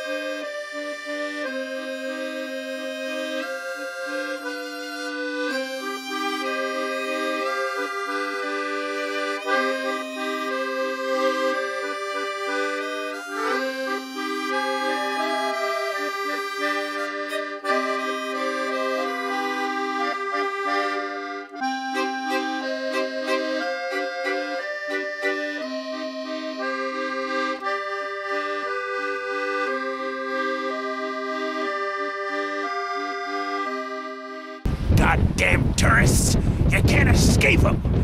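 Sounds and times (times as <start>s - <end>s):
accordion tune: 0.0s - 34.7s.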